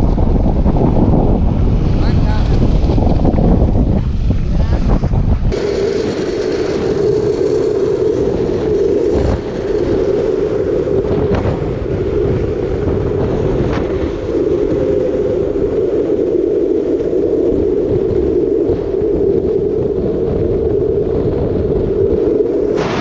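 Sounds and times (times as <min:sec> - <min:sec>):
wheels rolling on asphalt: 0:00.0 - 0:23.0.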